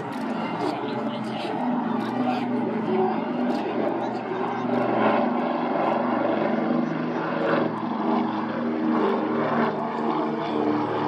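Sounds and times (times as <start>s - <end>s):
propeller engines droning: 0.0s - 11.0s.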